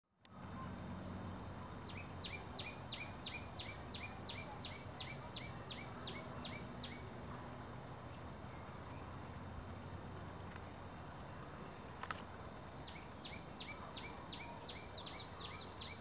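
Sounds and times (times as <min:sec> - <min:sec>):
steady low hum: 0:00.2 - 0:16.0.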